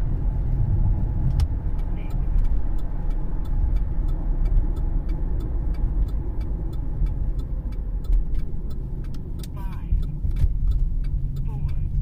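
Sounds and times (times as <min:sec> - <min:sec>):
car road rumble inside cabin: 0:00.0 - 0:12.0
faint ticks: 0:01.2 - 0:12.0.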